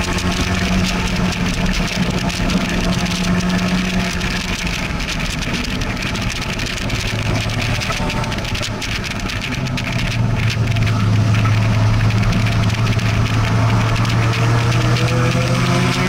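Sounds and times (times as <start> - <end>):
sports car engine: 0.0 - 16.0.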